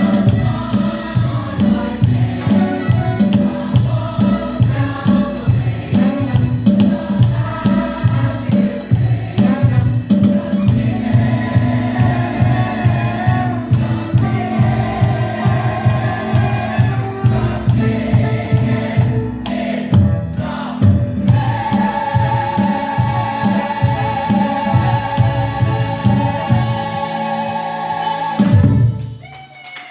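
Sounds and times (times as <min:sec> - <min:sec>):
group of voices singing: 0:00.0 - 0:29.1
upbeat band accompaniment: 0:00.0 - 0:29.9.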